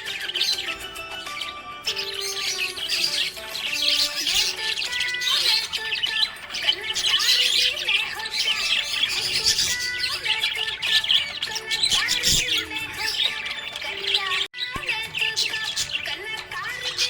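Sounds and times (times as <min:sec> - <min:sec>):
background music: 0:00.0 - 0:17.0
budgerigars chirping: 0:00.0 - 0:17.0.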